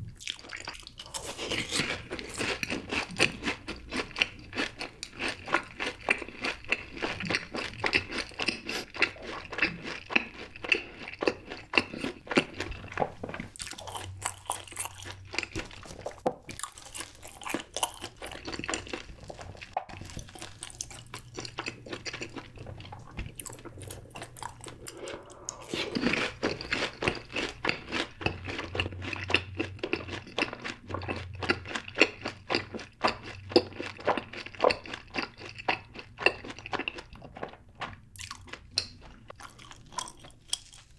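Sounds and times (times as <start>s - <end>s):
crunchy biting and chewing: 0.2s - 40.9s.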